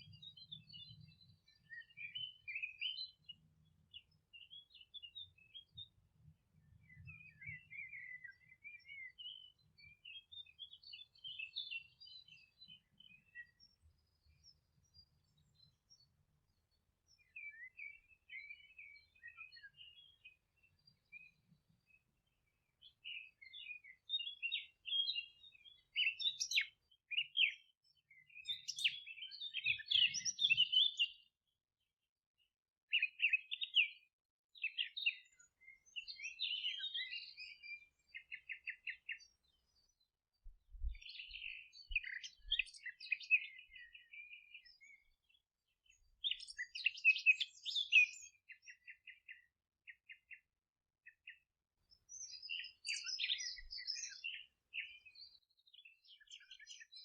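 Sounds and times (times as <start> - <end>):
songbirds singing with trills: 0.0 - 57.0.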